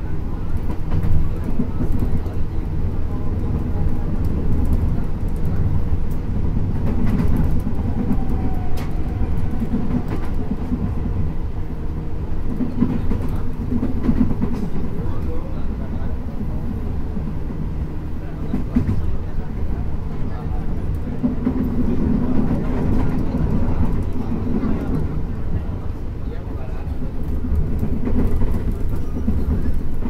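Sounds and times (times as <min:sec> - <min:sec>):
rumble of wheels on track: 0:00.0 - 0:30.0
rail joint clicks: 0:00.3 - 0:17.5, 0:18.4 - 0:19.4, 0:20.1 - 0:25.8, 0:26.8 - 0:30.0.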